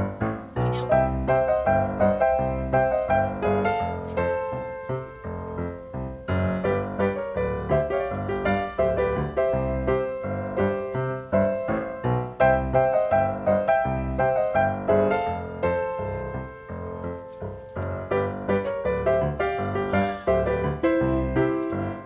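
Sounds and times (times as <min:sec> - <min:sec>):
background piano music: 0:00.0 - 0:22.0.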